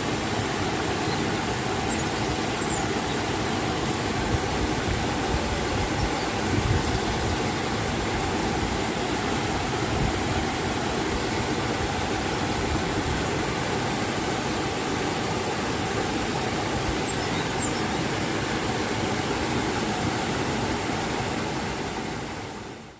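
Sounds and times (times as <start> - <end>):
river and waterfall rushing: 0.0 - 22.9.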